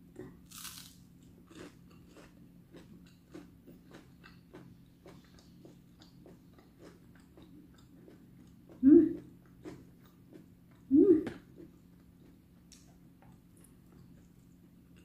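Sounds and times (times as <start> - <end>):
chewing crispy fried chicken: 0.1 - 15.0.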